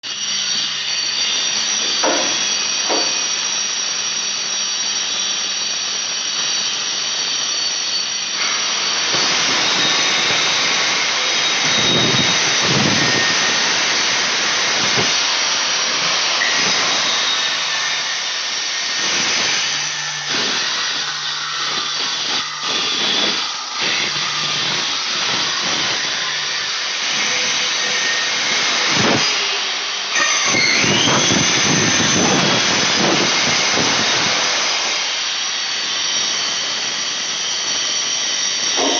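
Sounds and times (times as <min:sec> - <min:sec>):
cutting machines screeching: 0:00.0 - 0:38.9.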